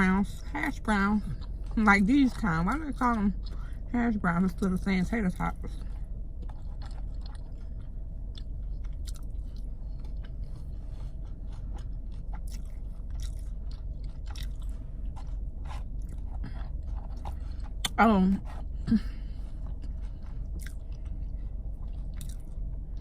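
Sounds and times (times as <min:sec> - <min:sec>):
steady low hum: 0:00.0 - 0:23.0
person chewing food: 0:00.3 - 0:03.9, 0:05.4 - 0:23.0.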